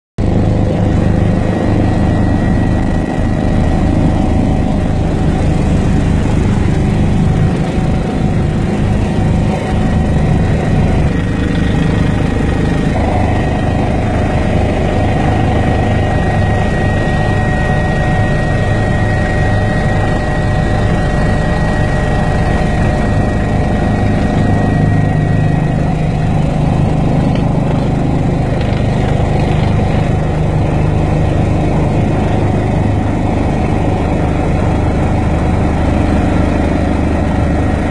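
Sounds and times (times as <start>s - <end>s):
helicopter engine and rotor: 0.2s - 37.9s
high turbine whine: 0.2s - 37.9s.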